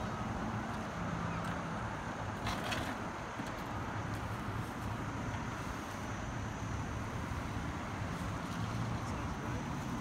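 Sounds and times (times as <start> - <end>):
cars passing on busy road: 0.0 - 10.0.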